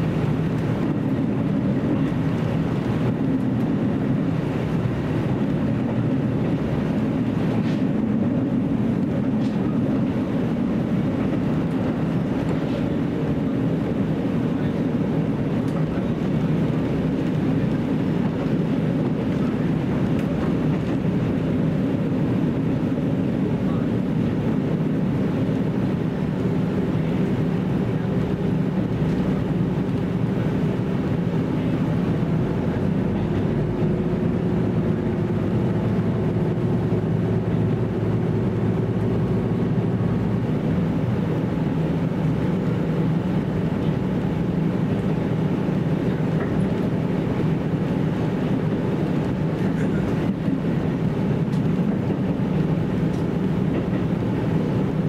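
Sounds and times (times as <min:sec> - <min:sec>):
diesel engine drone: 0:00.0 - 0:55.0
train wheel and rail noise: 0:00.0 - 0:55.0.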